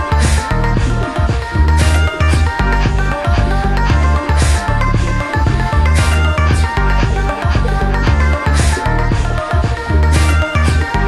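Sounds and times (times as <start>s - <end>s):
electronic house music: 0.0s - 11.0s.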